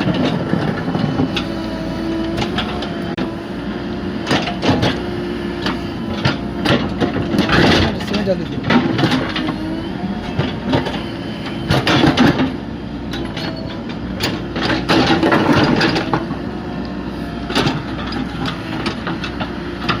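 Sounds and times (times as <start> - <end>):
diesel excavator engine running: 0.0 - 20.0.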